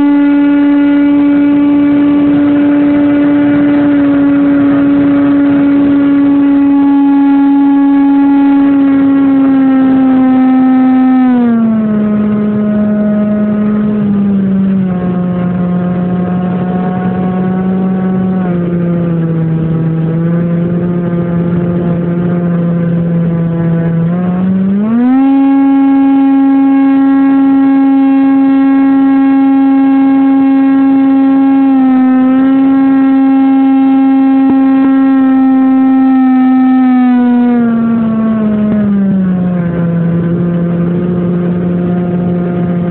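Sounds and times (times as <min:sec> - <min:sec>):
model airplane motor buzzing: 0:00.0 - 0:42.9.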